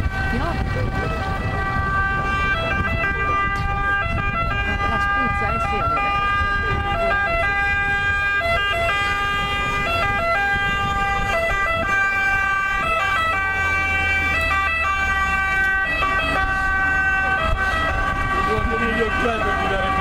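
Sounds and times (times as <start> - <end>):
ambulance two-tone siren: 0.0 - 20.0.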